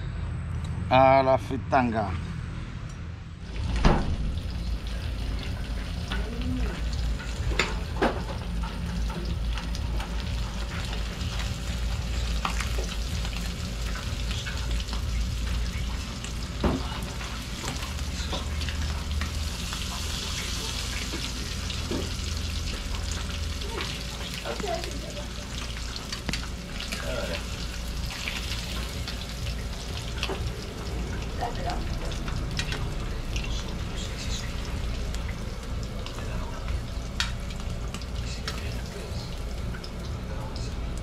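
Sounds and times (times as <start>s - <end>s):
fish frying in oil: 3.5s - 41.0s.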